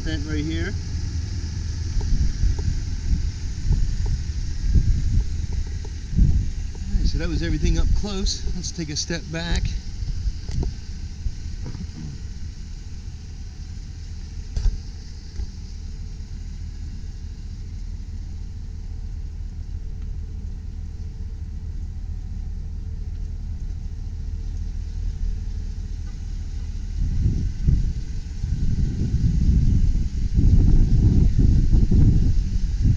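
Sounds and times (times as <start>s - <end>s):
pickup engine idling: 0.0s - 32.9s.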